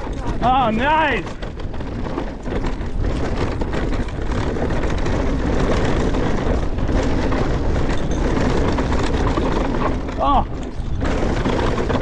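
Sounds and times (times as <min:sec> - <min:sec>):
bike rattle: 0:00.0 - 0:12.0
tyres rolling over rough ground: 0:00.0 - 0:12.0
wind on microphone: 0:00.0 - 0:12.0.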